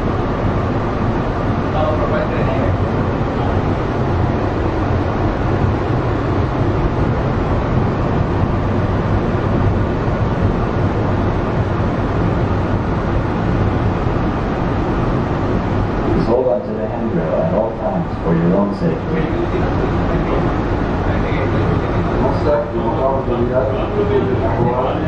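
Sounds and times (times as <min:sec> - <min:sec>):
train running rumble with hiss: 0:00.0 - 0:25.0.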